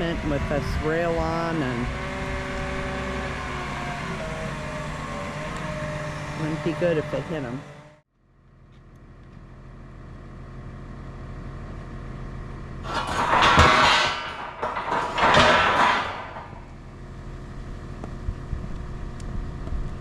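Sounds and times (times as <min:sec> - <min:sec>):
heavy equipment engine running: 0:00.0 - 0:20.0.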